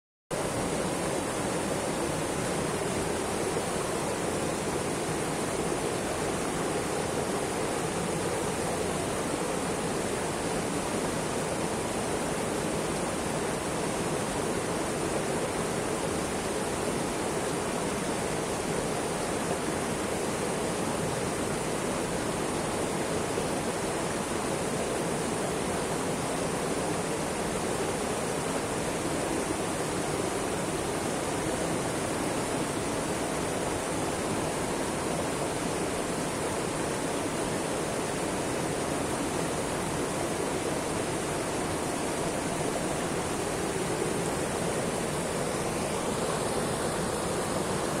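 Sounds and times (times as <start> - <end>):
river water rushing: 0.4 - 48.0.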